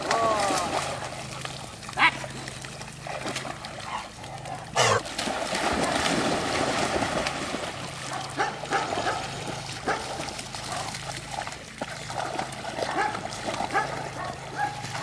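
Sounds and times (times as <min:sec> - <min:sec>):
dogs splashing in water: 0:00.0 - 0:15.0.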